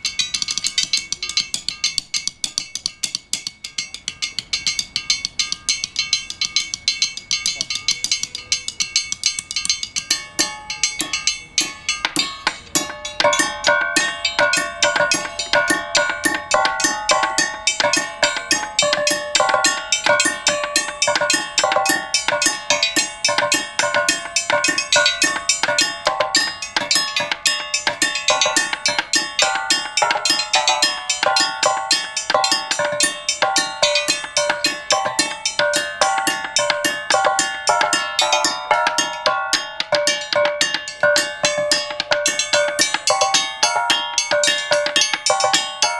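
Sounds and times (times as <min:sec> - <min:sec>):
metal tubes struck with mallets: 0:00.0 - 0:45.9.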